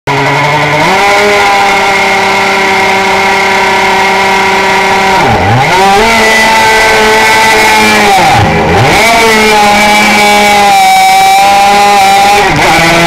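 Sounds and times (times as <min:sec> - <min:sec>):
two-stroke racing engine revving: 0:00.1 - 0:13.0.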